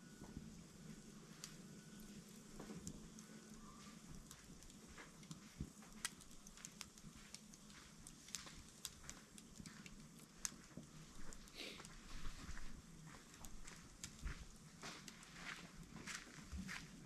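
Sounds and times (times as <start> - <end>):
wood fire crackling: 0.0 - 17.0
fire pops and snaps: 1.4 - 17.0.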